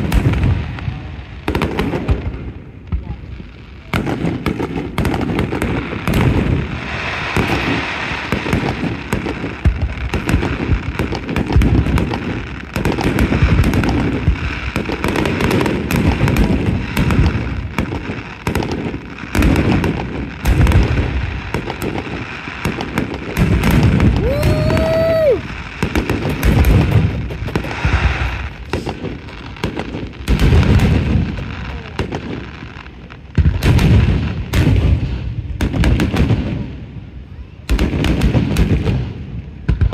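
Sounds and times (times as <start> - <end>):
fireworks bangs: 0.0 - 39.9
fireworks crackling: 0.0 - 39.9
whistling firework: 0.0 - 39.9.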